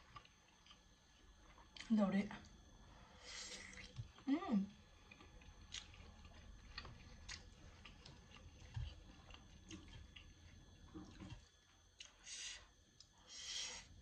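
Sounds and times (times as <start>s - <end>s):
quiet chewing: 0.0s - 1.9s, 3.4s - 13.2s.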